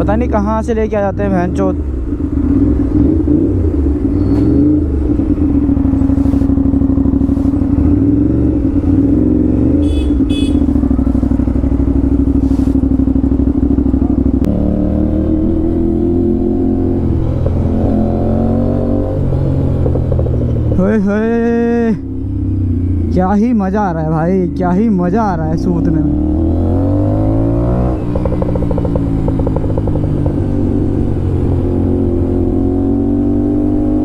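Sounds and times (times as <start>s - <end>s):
motorcycle engine revving: 1.2s - 34.0s.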